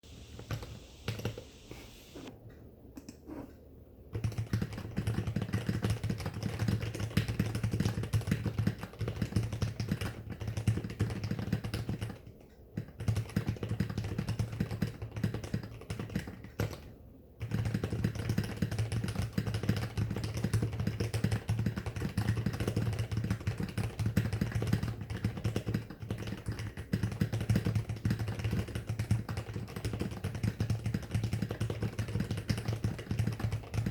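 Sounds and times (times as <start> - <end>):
keyboard typing: 0.4 - 2.3, 4.1 - 12.2, 12.8 - 16.8, 17.4 - 33.9.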